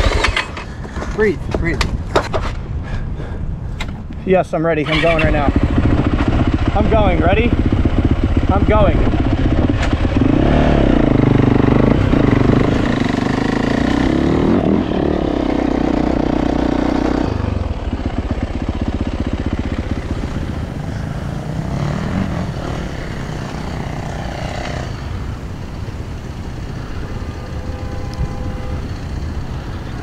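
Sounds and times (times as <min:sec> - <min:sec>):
dirt bike engine revving: 0:04.8 - 0:30.0.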